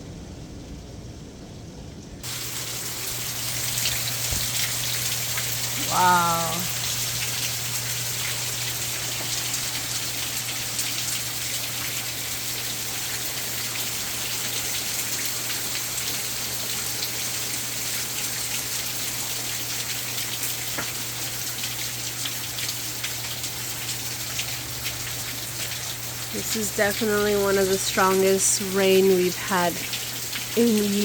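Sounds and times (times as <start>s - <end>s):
raindrops ticking: 2.2s - 17.2s, 19.5s - 31.0s
heavy rain: 2.2s - 31.0s.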